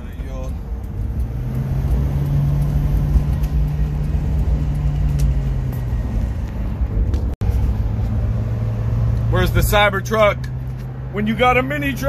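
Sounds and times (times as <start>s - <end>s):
low road rumble: 0.0s - 12.0s
van engine hum: 0.0s - 12.0s.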